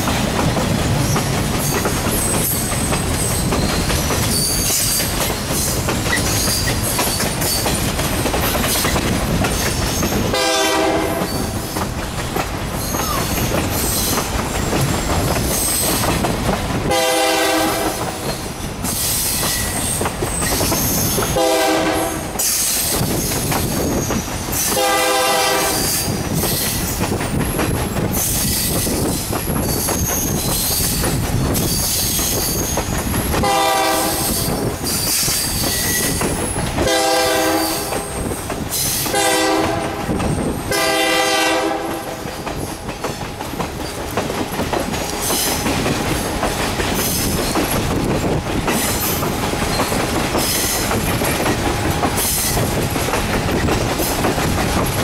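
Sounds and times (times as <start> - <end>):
wind at window: 0.0 - 10.4, 11.1 - 16.9, 22.1 - 40.8, 41.8 - 55.0
train wheels rumbling on rails: 0.0 - 55.0.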